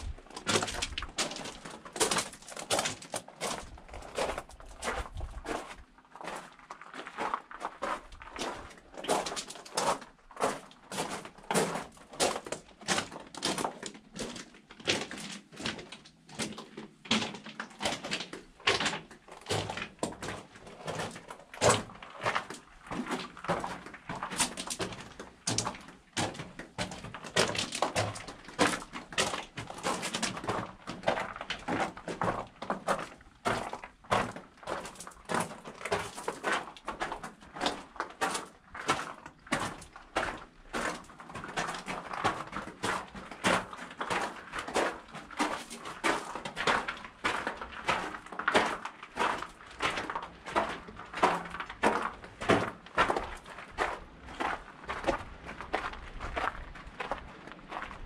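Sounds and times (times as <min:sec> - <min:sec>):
footsteps walking: 0:00.0 - 0:14.4, 0:19.5 - 0:58.0.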